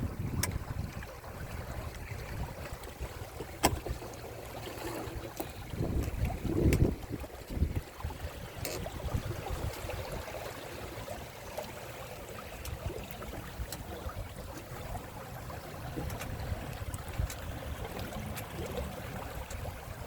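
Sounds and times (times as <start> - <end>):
wind buffeting microphone: 0.0 - 4.0, 5.4 - 10.4, 12.6 - 20.0
water rushing along hulls: 0.0 - 20.0.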